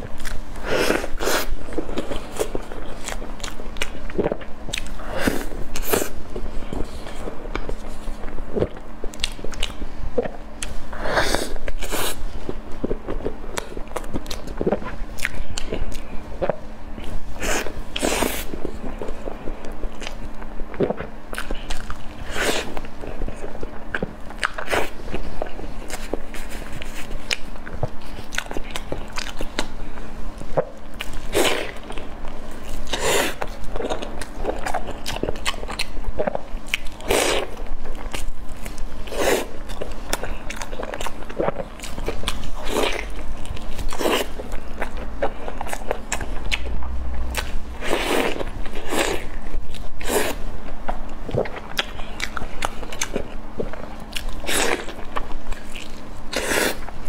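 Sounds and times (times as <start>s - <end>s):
faint steady hum: 0.0s - 57.0s
person chewing and eating: 0.0s - 57.0s.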